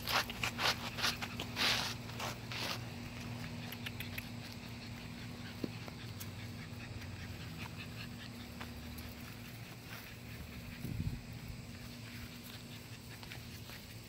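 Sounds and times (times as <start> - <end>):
puppies scuffing on dirt: 0.0 - 14.0
rustle: 0.0 - 14.0
small puppy sounds: 0.0 - 14.0
steady low hum: 0.0 - 14.0.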